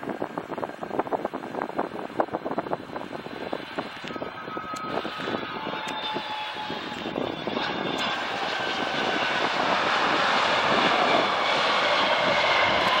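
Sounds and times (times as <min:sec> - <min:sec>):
jet engine noise: 0:00.0 - 0:13.0
faint whining tones: 0:02.2 - 0:13.0.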